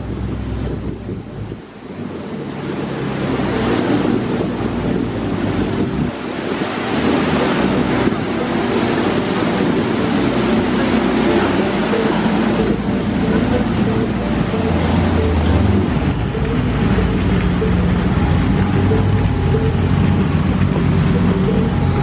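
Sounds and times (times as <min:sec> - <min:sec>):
car engine at low speed: 0:00.0 - 0:22.0
wind buffeting microphone: 0:00.0 - 0:22.0.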